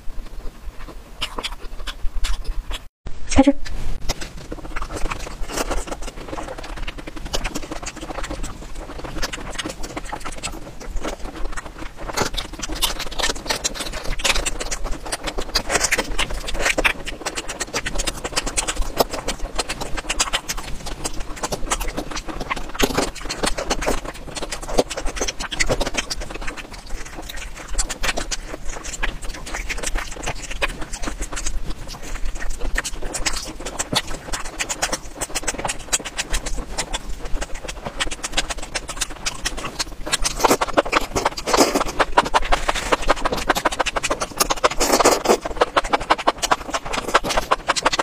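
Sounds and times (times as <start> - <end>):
chewing and crunching food: 0.0 - 2.9, 3.6 - 48.0.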